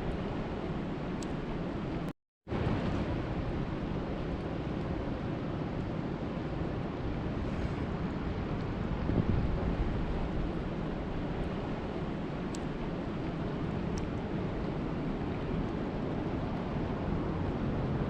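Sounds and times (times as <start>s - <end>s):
rushing lake water: 0.0s - 18.0s
wind buffeting microphone: 0.0s - 18.0s.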